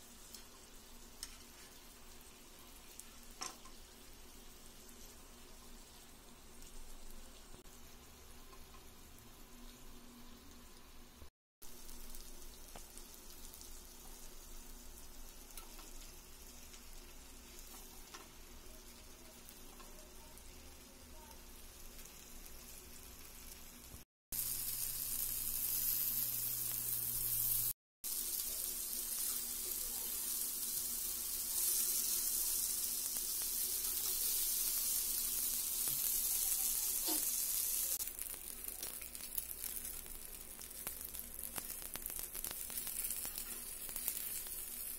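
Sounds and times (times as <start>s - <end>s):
chicken sizzling in oil: 0.0s - 44.9s.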